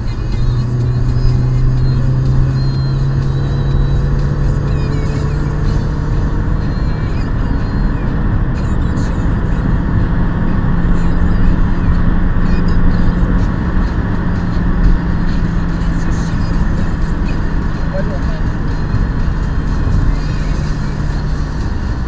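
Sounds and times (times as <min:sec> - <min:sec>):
exhaust droning: 0:00.0 - 0:22.0
road noise: 0:00.0 - 0:22.0.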